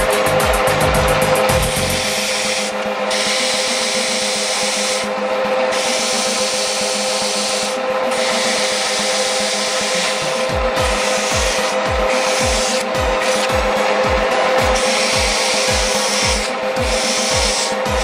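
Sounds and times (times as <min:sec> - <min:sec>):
abrasive block sanding metal: 0:00.0 - 0:18.0
metal lathe humming: 0:00.0 - 0:18.0.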